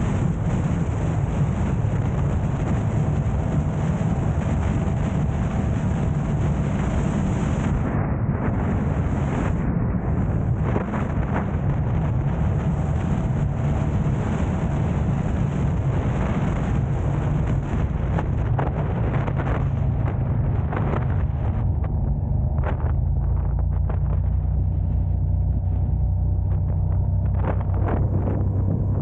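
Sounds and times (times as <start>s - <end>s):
car engine and tyre rumble: 0.0s - 29.0s
wind on microphone: 0.0s - 29.0s.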